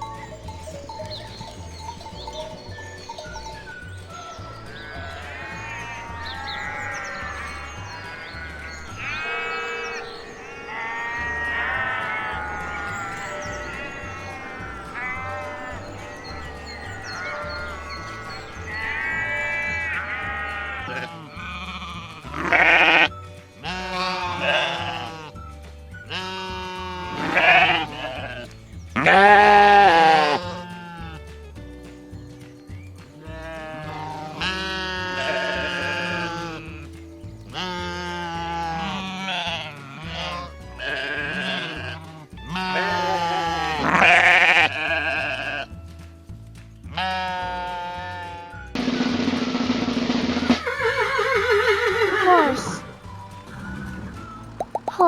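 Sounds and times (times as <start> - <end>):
background music with bass line: 0.0 - 55.0
sheep bleating: 1.5 - 25.4, 26.0 - 31.2, 33.2 - 45.8, 46.9 - 48.7, 50.5 - 53.2.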